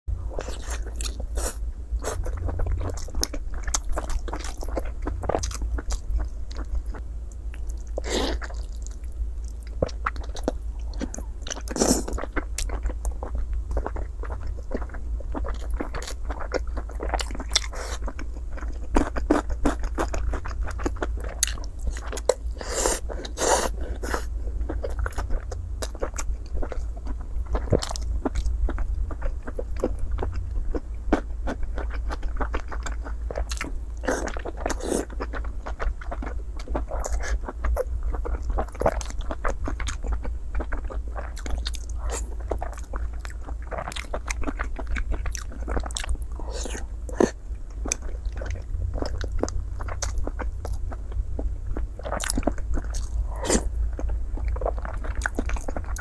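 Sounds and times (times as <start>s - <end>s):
steady low hum: 0.1s - 56.0s
person chewing and biting: 0.3s - 56.0s.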